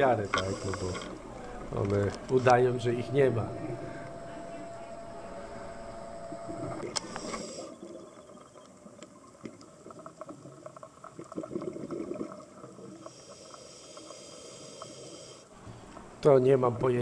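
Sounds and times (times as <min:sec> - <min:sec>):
underwater bubbling and crackling: 0:00.0 - 0:16.2.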